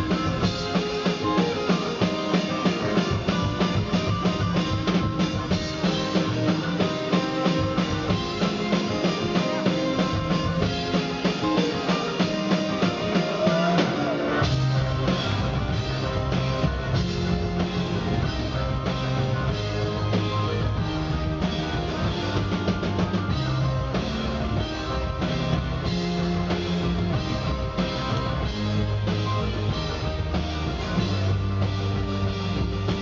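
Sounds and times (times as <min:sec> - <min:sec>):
heavy bass: 0:00.0 - 0:33.0
rock band playing live: 0:00.0 - 0:33.0.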